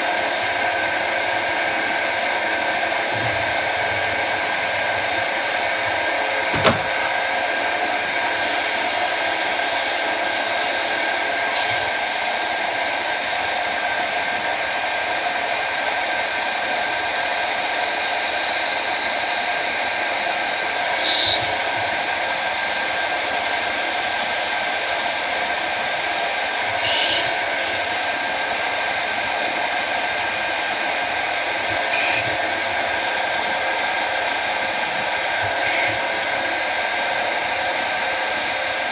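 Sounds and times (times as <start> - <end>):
lathe running: 0.0 - 38.9.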